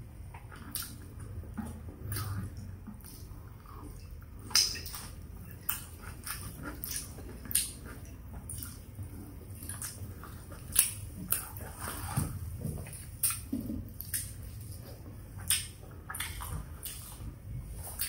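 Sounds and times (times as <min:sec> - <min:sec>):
chewing and wet mouth smacks: 0:00.3 - 0:18.0.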